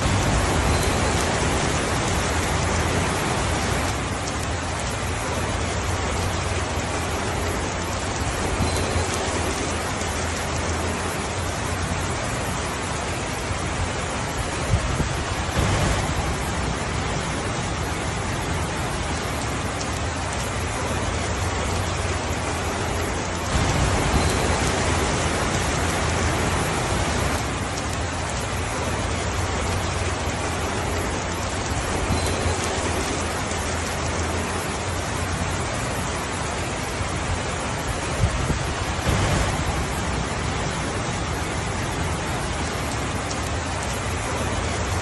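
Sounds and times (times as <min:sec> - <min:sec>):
steady rainfall: 0:00.0 - 0:45.0.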